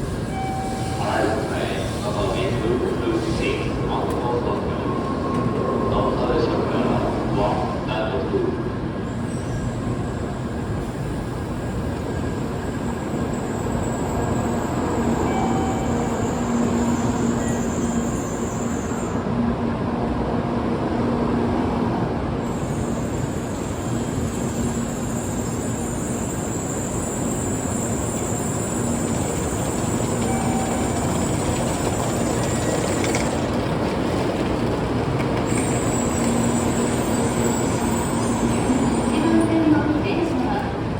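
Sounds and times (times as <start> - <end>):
train rumbling into station: 0.0 - 40.9.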